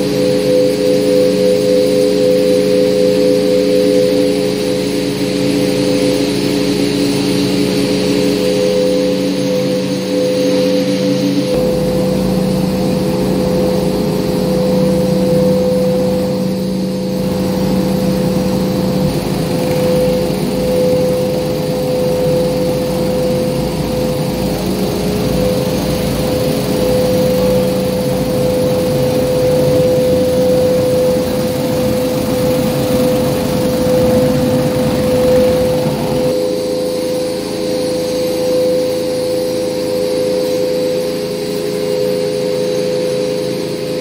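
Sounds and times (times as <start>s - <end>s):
motor whine: 0.0s - 44.0s.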